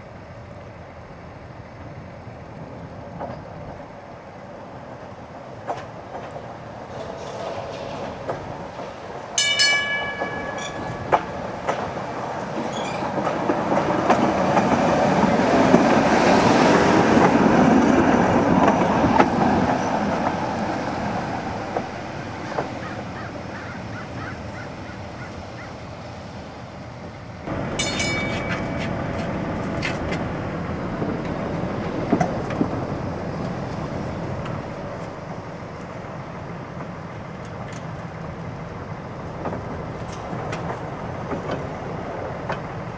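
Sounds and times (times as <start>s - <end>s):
streetcar wheels rumbling on track: 0.0s - 42.9s
streetcar warning tone: 6.9s - 42.9s.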